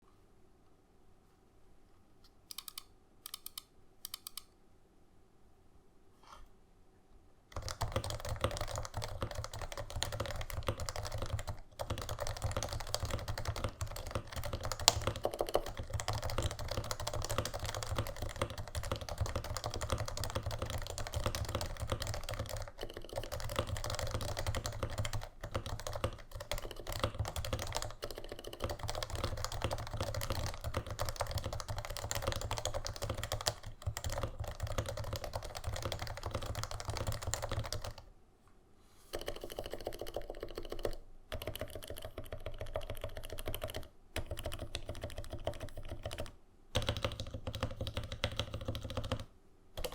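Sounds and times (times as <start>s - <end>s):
keyboard typing: 2.5s - 4.5s, 7.5s - 38.1s, 39.1s - 49.9s.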